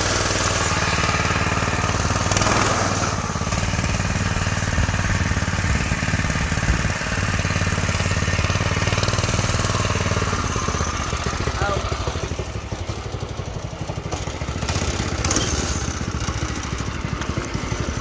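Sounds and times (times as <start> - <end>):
go-kart engine under throttle: 0.0 - 18.0.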